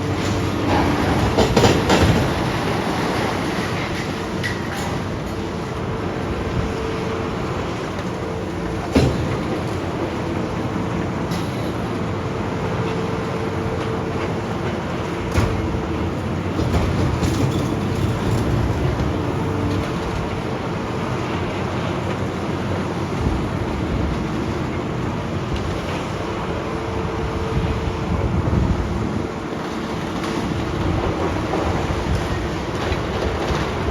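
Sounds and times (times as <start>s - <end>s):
excavator engine and hydraulic drone: 0.0s - 33.9s.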